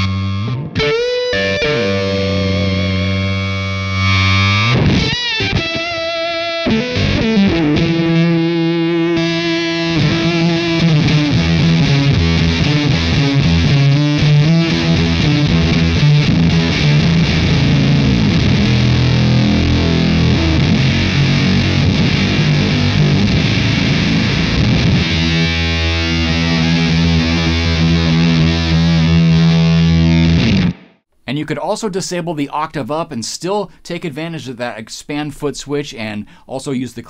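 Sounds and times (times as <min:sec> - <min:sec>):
distorted electric guitar chords: 0:00.0 - 0:31.1.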